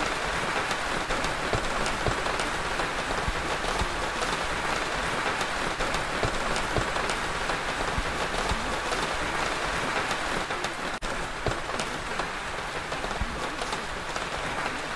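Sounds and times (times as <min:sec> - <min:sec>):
rain pattering: 0:00.0 - 0:14.9.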